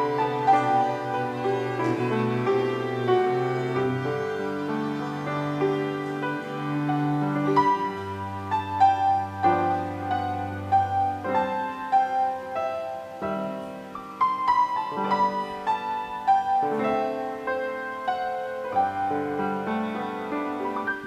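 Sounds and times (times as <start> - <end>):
slow gentle piano music: 0.0 - 21.0.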